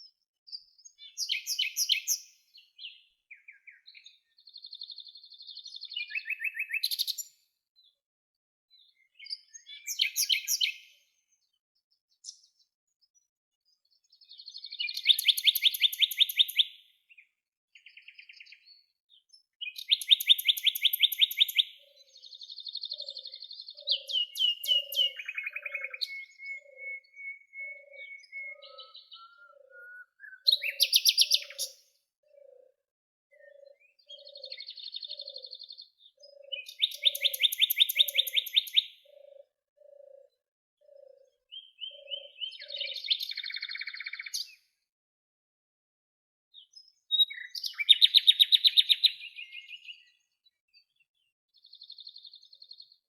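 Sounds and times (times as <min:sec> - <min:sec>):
songbirds singing trilled phrases: 0:00.0 - 0:08.1, 0:08.7 - 0:44.9, 0:46.5 - 0:53.0.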